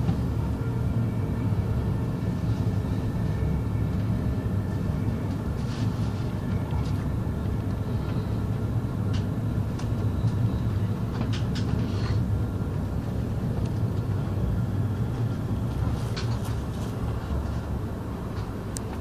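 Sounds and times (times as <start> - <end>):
vehicle rumble from inside cabin: 0.0 - 19.0.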